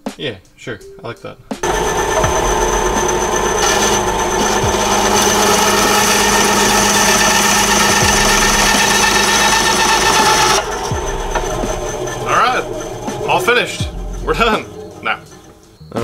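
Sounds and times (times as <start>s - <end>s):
band saw whining: 1.5s - 16.0s
saw blade cutting wood: 1.6s - 15.5s.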